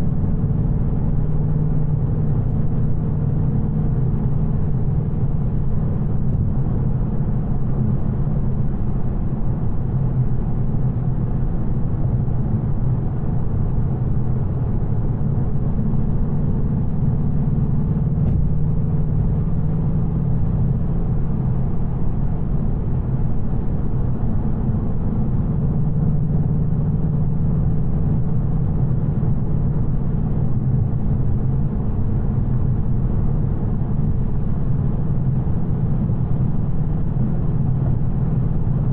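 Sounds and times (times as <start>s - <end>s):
car engine cruising drone: 0.0s - 38.9s
road noise: 0.0s - 38.9s.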